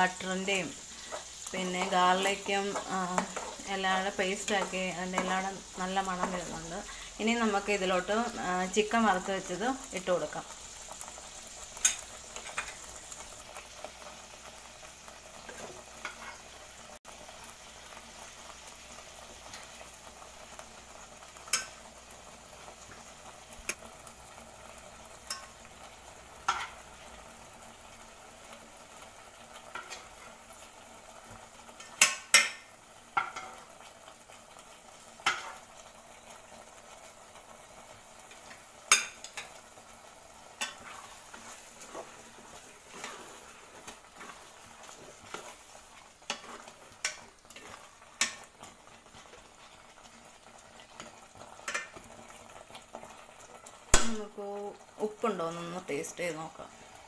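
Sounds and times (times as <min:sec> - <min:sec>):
gravy simmering and sizzling: 0:00.0 - 0:57.0.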